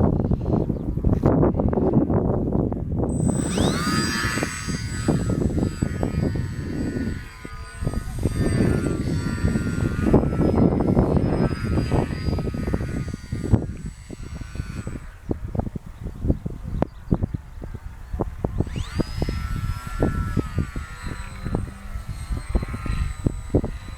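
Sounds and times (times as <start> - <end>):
wind buffeting microphone: 0.0 - 23.9
model plane motor whining: 3.0 - 23.9.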